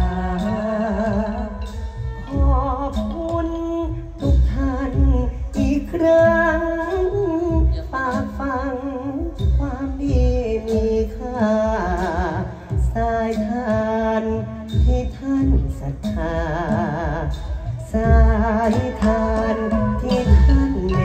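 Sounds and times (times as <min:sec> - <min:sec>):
low drum beats: 0:00.0 - 0:21.0
solo voice singing: 0:00.0 - 0:21.0.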